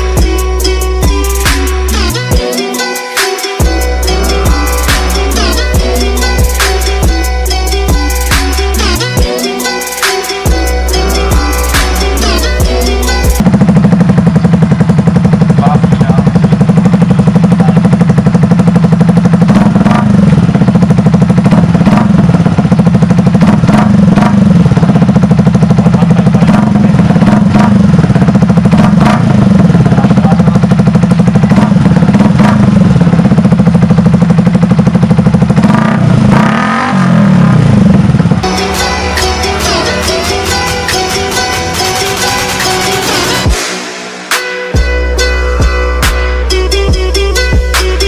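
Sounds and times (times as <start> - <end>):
motorcycle engine idling and revving: 0.0 - 48.0.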